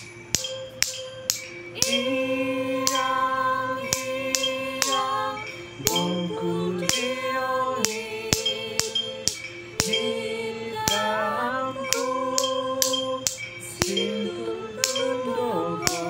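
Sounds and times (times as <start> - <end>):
sharp beat clicks: 0.0 - 16.0
ukulele: 0.0 - 16.0
voices singing in harmony: 0.0 - 16.0.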